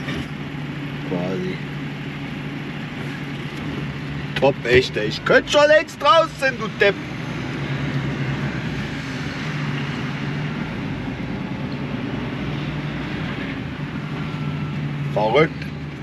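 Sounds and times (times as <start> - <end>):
diesel engine hum: 0.0 - 16.0
road and tyre noise: 0.0 - 16.0.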